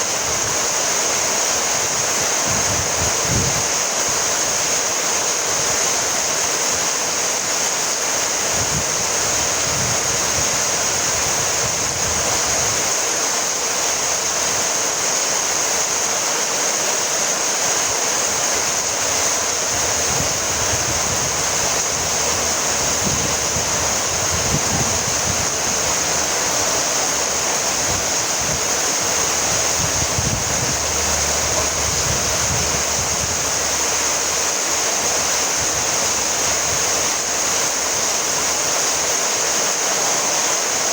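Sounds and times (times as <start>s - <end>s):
steady rainfall hiss: 0.0s - 40.9s.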